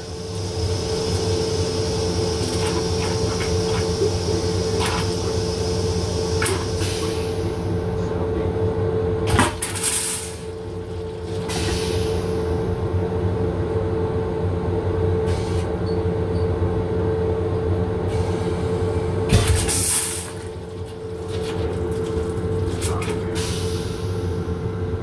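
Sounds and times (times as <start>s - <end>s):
electric railcar hum: 0.0s - 25.0s.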